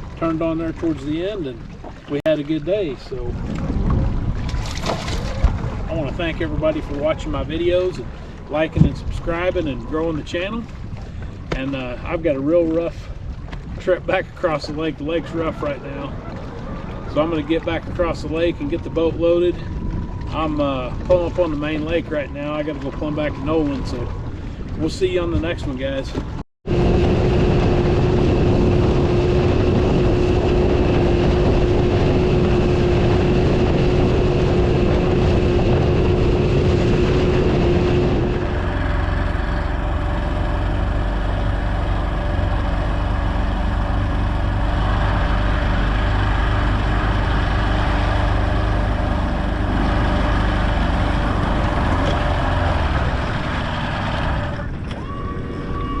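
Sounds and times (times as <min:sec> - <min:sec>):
outboard motor droning: 0:00.0 - 0:56.0
rushing wind and water: 0:00.0 - 0:56.0.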